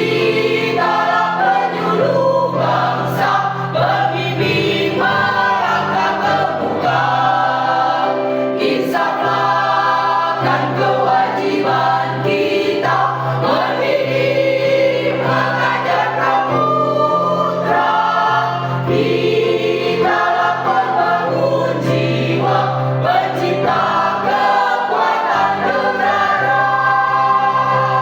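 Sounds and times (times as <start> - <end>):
choir singing a march: 0.0 - 28.0.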